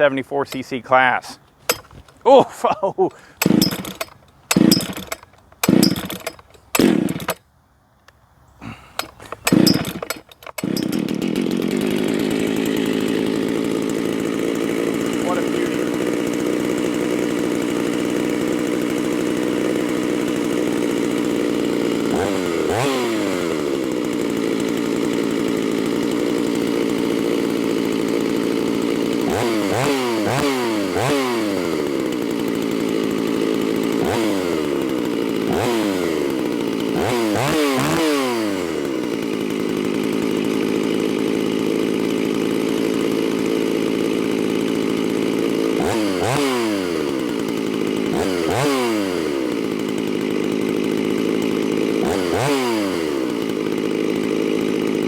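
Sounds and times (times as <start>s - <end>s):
chainsaw revving: 0.0s - 7.4s, 8.6s - 55.0s.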